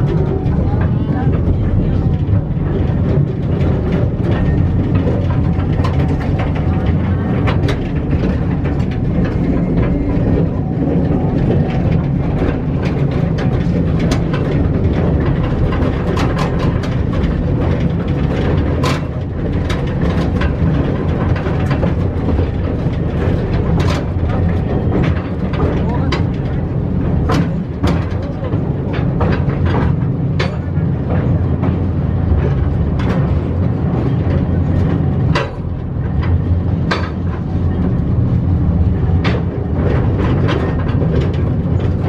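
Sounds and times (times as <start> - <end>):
clacks and rattles of cars: 0.0 - 42.0
train rumbling on rails: 0.0 - 42.0.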